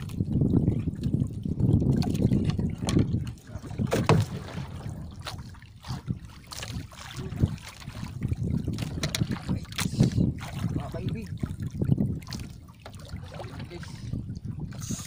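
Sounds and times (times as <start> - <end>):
water splashing against boat: 0.0 - 15.0
wind rumbling on microphone: 0.0 - 15.0.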